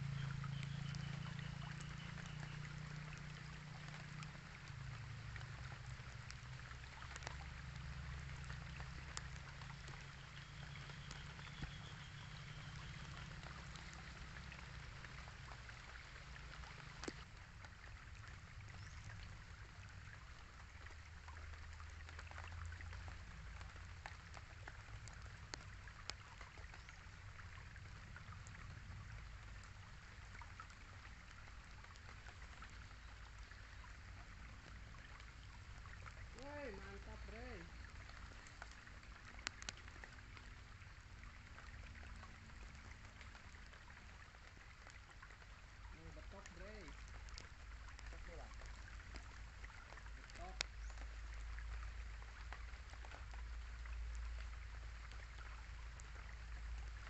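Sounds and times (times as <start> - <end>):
light rain hiss with drop ticks: 0.0 - 57.0
low steady rumble: 0.0 - 57.0.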